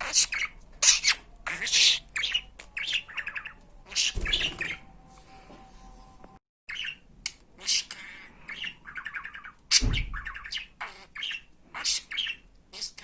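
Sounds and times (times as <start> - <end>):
budgerigar chattering: 0.0 - 4.8, 6.7 - 13.0.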